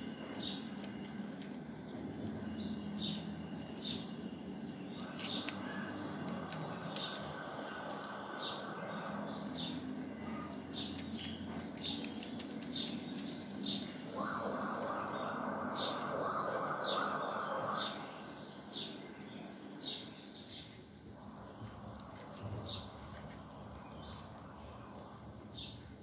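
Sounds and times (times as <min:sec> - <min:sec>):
low background hum: 0:00.0 - 0:26.0
small birds chirping: 0:00.0 - 0:26.0.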